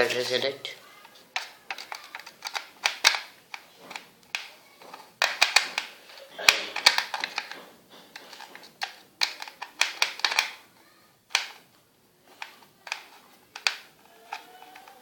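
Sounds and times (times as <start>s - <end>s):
plastic toy clicks and taps: 1.3s - 10.6s, 11.3s - 11.7s, 12.3s - 15.0s.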